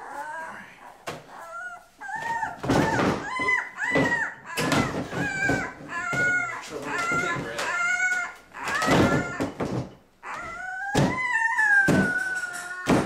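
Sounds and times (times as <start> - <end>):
puppies whining and crying: 0.0 - 13.0.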